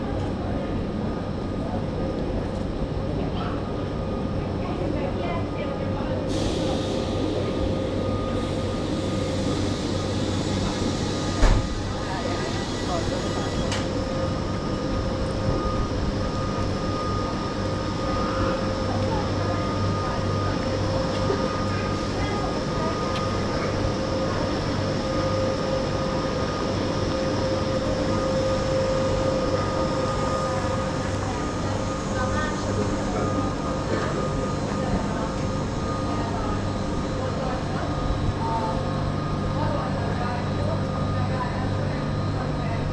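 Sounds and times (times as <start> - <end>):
train humming: 0.0 - 42.9.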